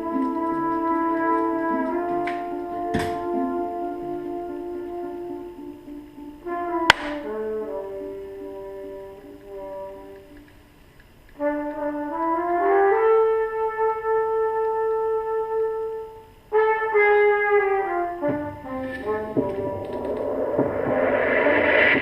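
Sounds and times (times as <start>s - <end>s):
brass melody: 0.0s - 22.0s.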